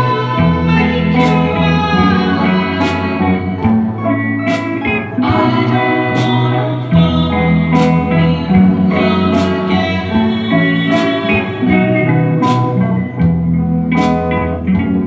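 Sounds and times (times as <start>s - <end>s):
guitar chords: 0.0s - 15.0s
low bass line: 0.0s - 15.0s.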